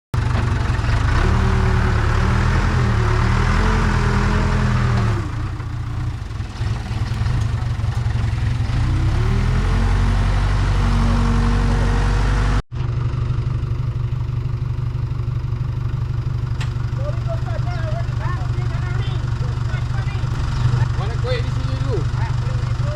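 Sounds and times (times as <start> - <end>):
diesel engine under load: 0.2 - 22.9.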